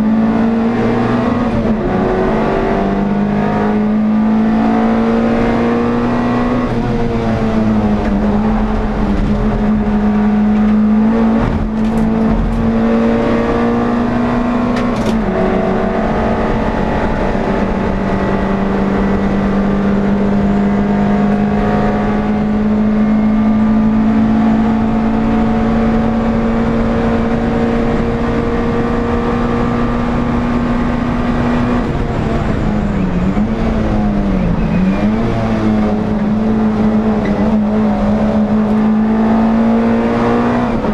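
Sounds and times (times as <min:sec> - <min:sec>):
race car engine at high revs: 0:00.0 - 0:40.9.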